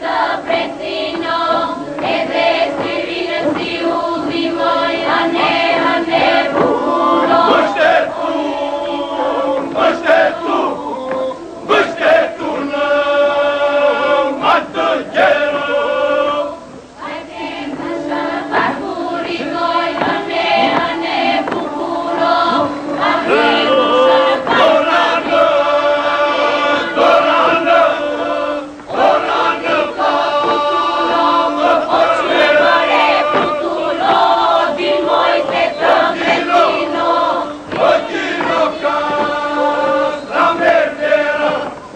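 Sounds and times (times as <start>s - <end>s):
group of voices singing: 0.0s - 41.9s
steady vocal drone: 0.0s - 41.9s.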